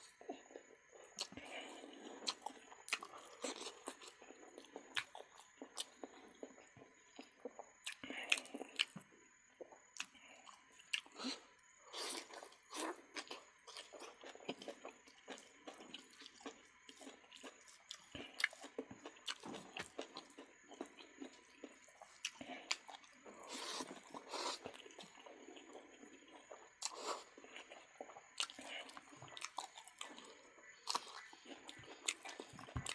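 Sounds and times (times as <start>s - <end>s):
person chewing and biting: 0.0s - 9.0s, 12.0s - 32.9s.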